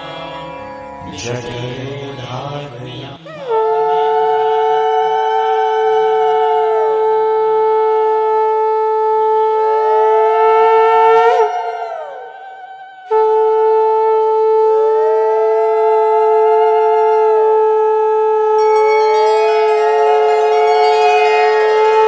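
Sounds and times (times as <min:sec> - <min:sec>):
conch shells blown: 0:03.3 - 0:22.0.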